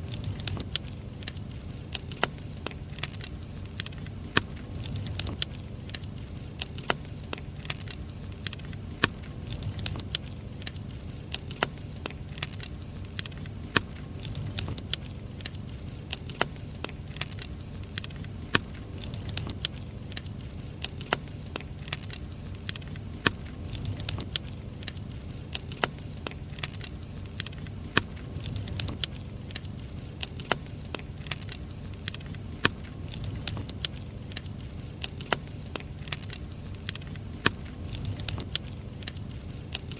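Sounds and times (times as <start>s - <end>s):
firewood crackling and popping: 0.0s - 39.9s
flame hissing: 0.0s - 39.9s.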